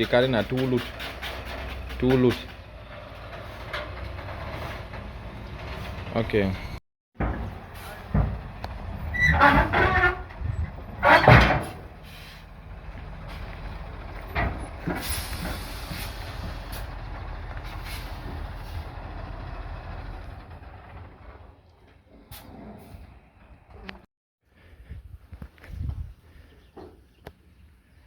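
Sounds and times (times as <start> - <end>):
heavy truck engine droning: 0.2 - 23.8.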